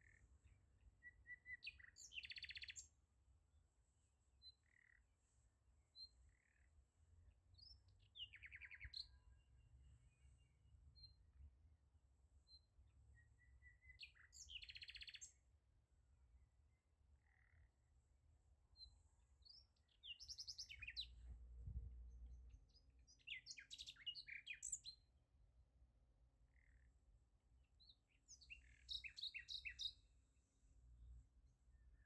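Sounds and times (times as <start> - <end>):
songbird chirping and trilling: 0.0 - 3.0, 4.4 - 5.1, 5.9 - 11.3, 12.3 - 15.5, 16.5 - 25.2, 26.4 - 32.0.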